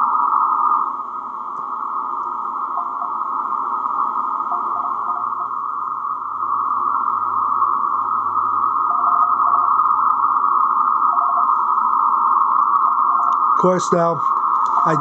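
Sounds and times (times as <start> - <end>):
radio receiver hiss: 0.0 - 15.0.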